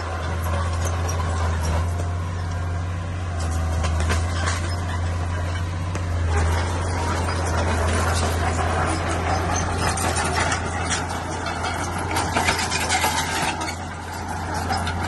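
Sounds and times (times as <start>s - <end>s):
bulldozer diesel engine droning: 0.0s - 15.0s
knocks and clanks of tracks: 0.0s - 15.0s.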